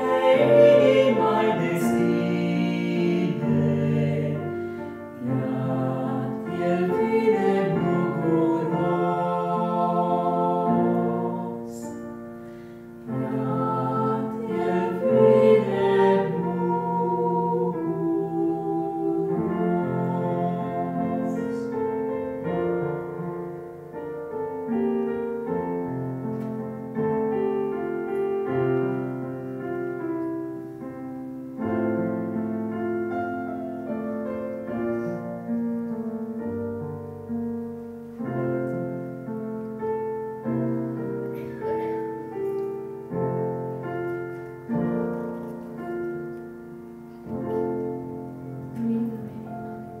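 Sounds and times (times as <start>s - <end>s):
piano playing slow chords: 0.0s - 50.0s.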